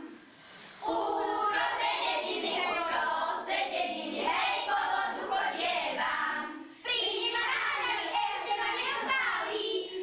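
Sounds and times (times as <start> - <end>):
children singing a folk song: 0.8 - 10.0.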